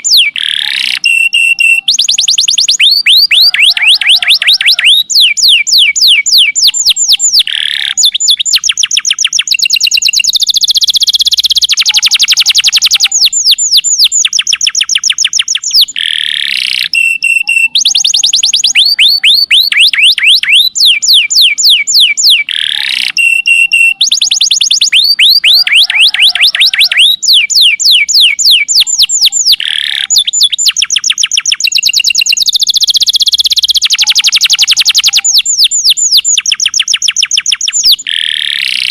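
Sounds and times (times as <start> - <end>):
canary singing long trills: 0.0 - 38.9.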